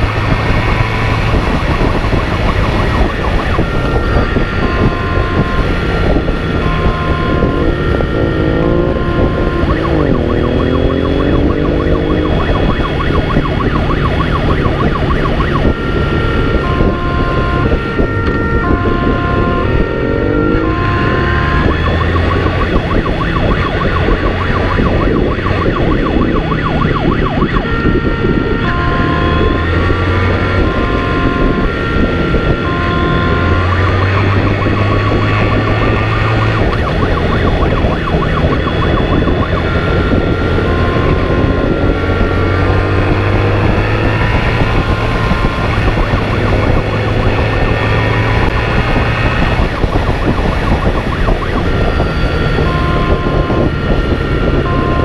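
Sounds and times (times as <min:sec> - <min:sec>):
emergency siren wailing: 0:00.0 - 0:55.0
motorcycle engine running: 0:00.0 - 0:55.0
wind rush: 0:00.0 - 0:55.0.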